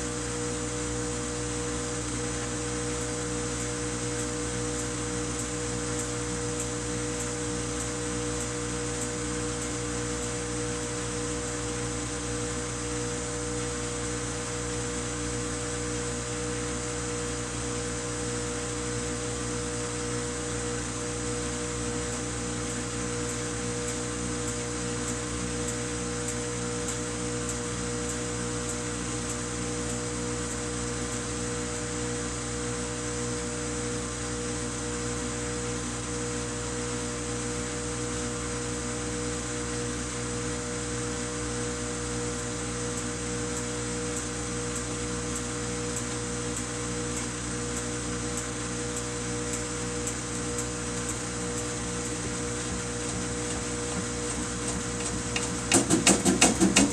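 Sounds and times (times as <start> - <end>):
washing machine spinning: 0.0 - 56.9.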